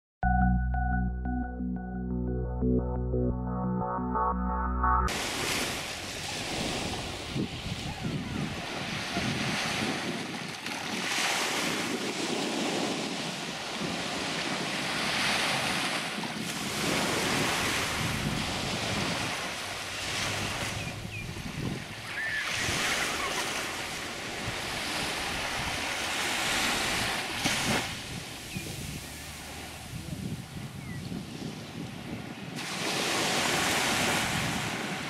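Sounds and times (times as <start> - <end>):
sea waves breaking on beach: 5.1 - 35.0
wind buffeting microphone: 5.8 - 35.0.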